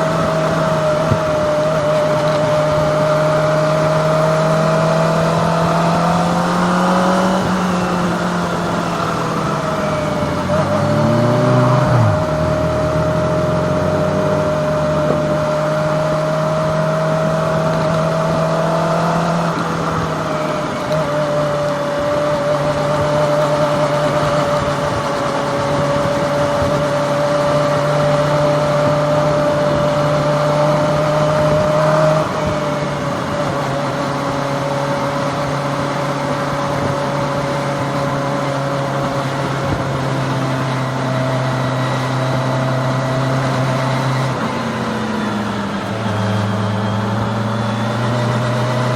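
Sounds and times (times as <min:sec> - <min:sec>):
motorcycle engine cruising: 0:00.0 - 0:48.9.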